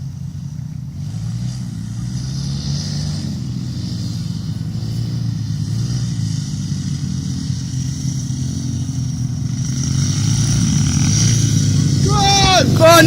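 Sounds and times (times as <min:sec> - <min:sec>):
pit bike engines racing: 0:00.0 - 0:13.0.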